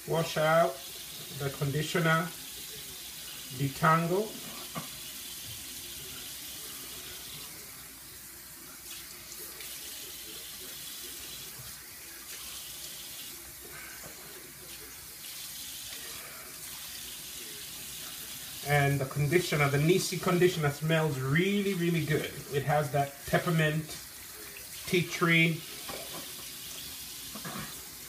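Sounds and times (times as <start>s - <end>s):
faucet running: 0.0s - 28.0s.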